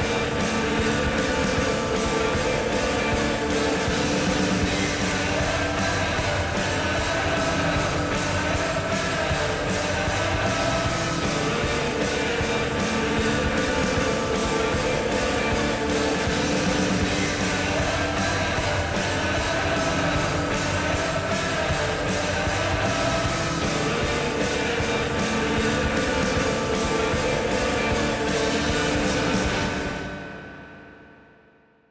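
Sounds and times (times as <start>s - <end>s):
hard rock music: 0.0s - 31.1s.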